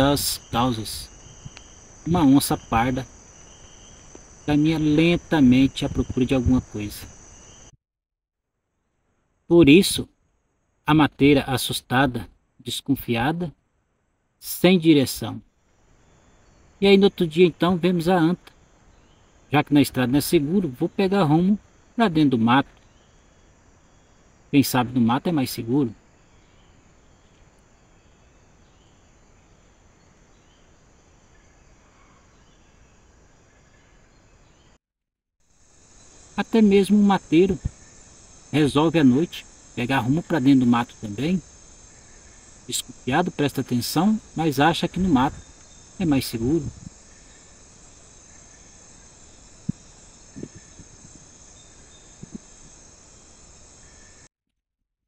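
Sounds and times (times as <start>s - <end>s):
insects trilling: 0.0s - 7.8s, 9.1s - 13.6s, 14.4s - 34.8s, 35.4s - 54.3s.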